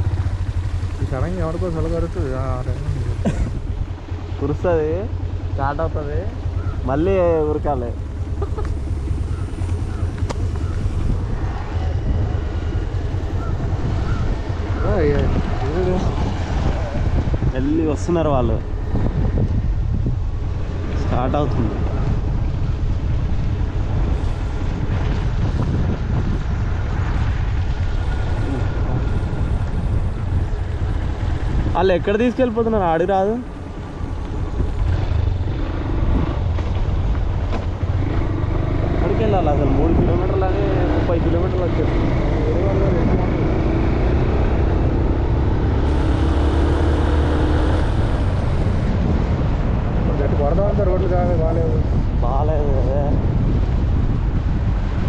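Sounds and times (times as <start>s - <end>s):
motorcycle running: 0.0s - 55.0s
wind rumble on microphone: 0.0s - 55.0s.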